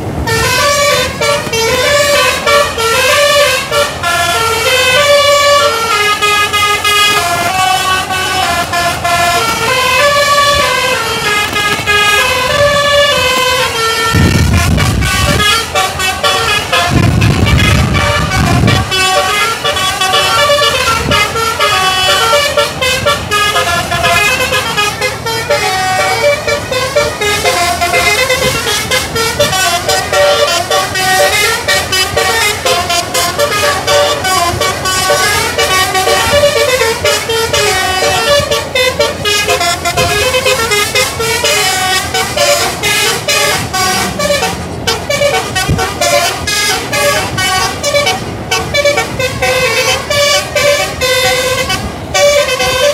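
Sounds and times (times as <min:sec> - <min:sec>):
bus air horn playing tunes: 0:00.0 - 0:52.9.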